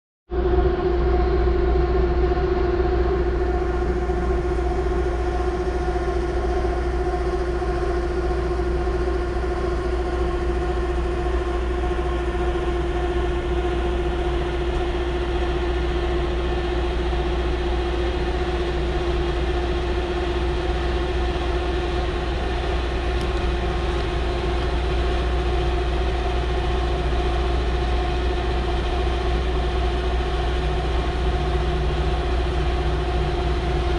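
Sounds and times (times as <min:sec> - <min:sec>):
machinery drone: 0:00.3 - 0:33.9.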